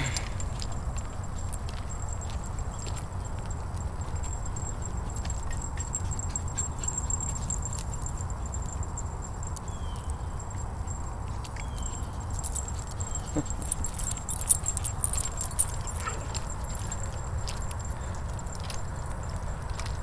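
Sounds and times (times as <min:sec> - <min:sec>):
collar tags jingling: 0:00.0 - 0:20.0.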